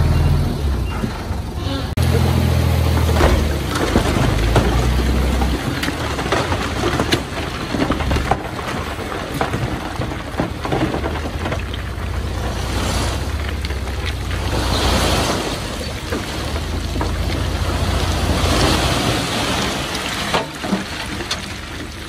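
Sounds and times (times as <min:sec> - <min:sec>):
diesel machinery droning: 0:00.0 - 0:22.0
soil and stones shifting: 0:00.8 - 0:22.0.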